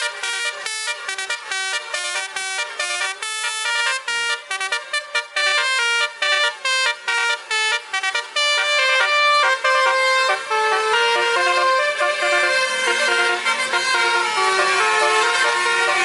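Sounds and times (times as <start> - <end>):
multi-tone bus horn tune: 0.0 - 16.0.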